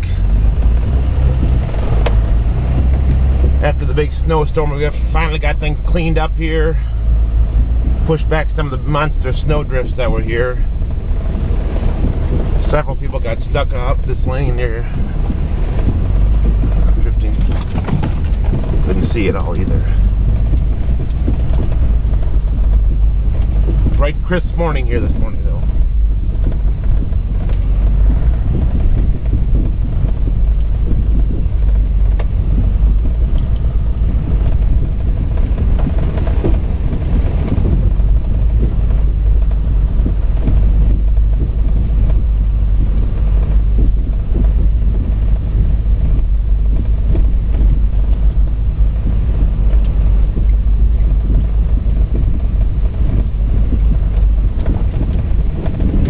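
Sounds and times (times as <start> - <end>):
engine and road rumble: 0.0 - 56.0
small knocks and rattles: 0.0 - 56.0.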